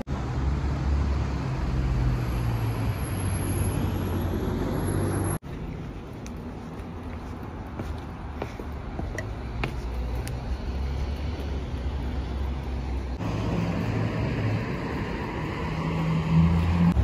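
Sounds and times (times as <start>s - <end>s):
low rumble of road traffic: 0.0s - 17.0s
vehicle engine hum: 0.1s - 17.0s.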